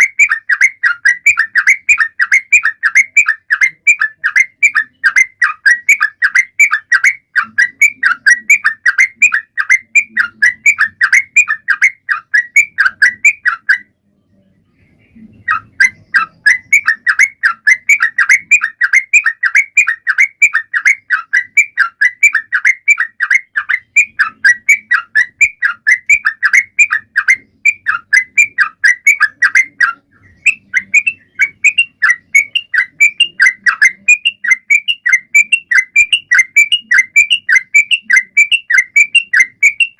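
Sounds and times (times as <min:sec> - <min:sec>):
bulbul singing repeated chirps: 0:00.0 - 0:13.9, 0:14.9 - 0:39.9.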